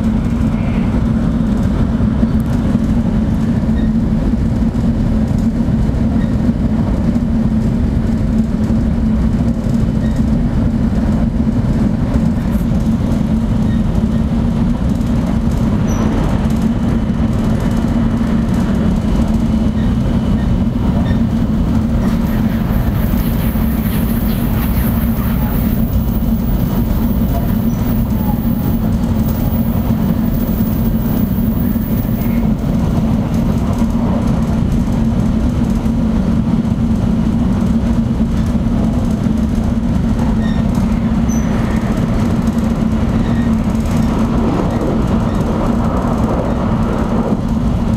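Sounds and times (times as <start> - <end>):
train cabin rumble and hum: 0.0 - 47.9.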